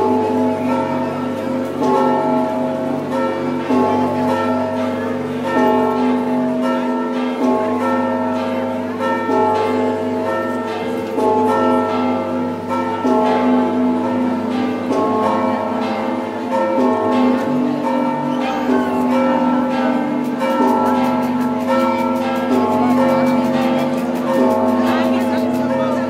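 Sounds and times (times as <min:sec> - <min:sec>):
church bells ringing a peal: 0:00.0 - 0:26.0.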